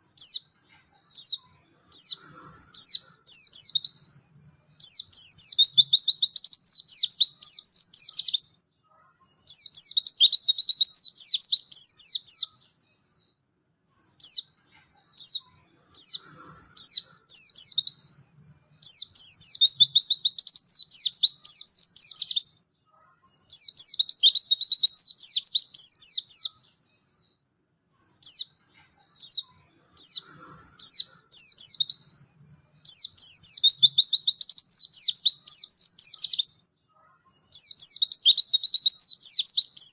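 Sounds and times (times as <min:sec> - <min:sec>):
bird singing chattering warble: 0:00.0 - 0:39.9.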